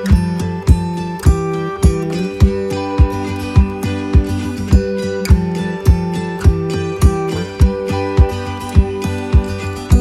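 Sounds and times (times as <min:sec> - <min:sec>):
background music with low thumps: 0:00.0 - 0:10.0.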